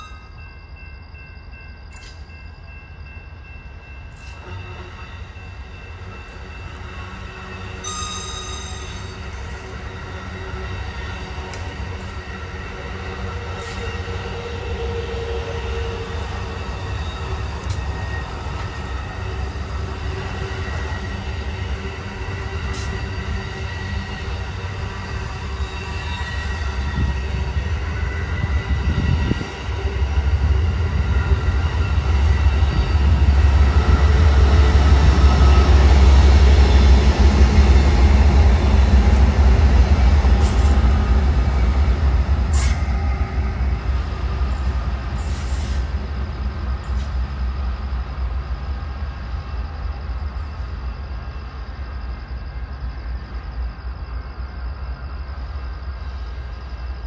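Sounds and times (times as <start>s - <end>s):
diesel locomotive rumble: 0.0s - 57.0s
train wheel squeal: 0.0s - 57.0s.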